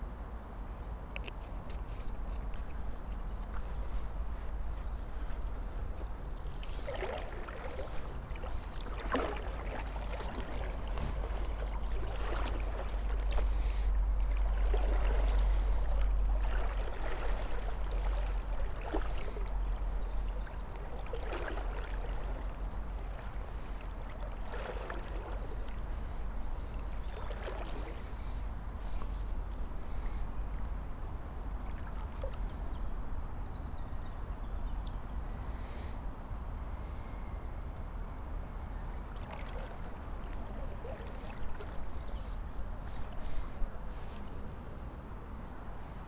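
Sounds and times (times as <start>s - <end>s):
steady low rumble: 0.0s - 46.0s
river water sloshing and lapping: 0.6s - 37.2s, 37.8s - 46.0s.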